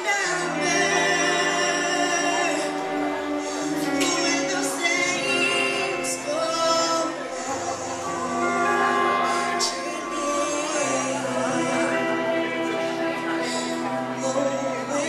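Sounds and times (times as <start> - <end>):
group of young singers: 0.0 - 15.0
live band accompaniment: 0.0 - 15.0.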